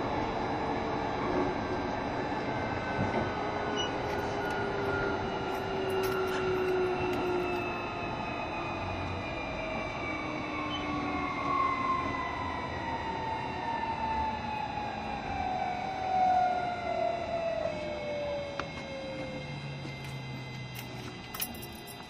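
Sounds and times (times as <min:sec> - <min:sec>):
wheels rumbling on rail: 0:00.0 - 0:22.0
electric train motor whine: 0:01.7 - 0:22.0.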